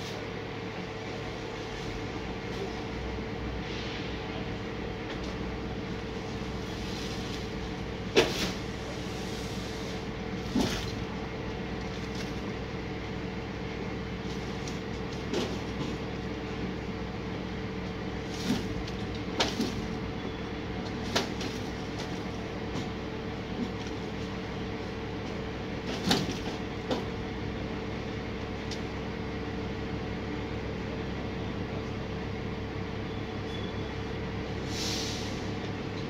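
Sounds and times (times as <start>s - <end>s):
heavy truck engine running: 0.0s - 36.0s.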